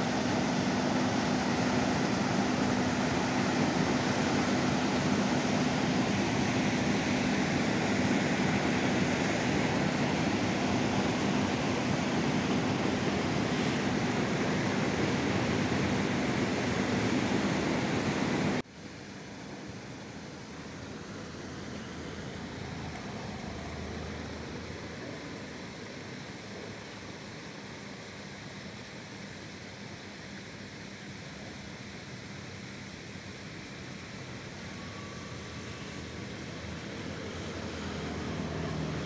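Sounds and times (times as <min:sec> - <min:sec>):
river water rushing over rapids: 0:00.0 - 0:39.0.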